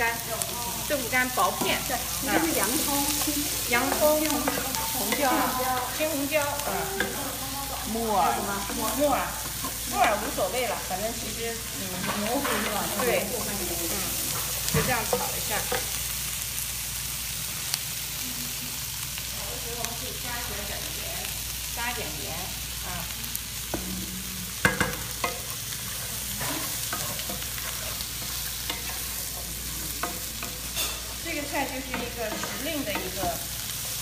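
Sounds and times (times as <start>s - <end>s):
stir-fry sizzling in a skillet: 0.0s - 34.0s.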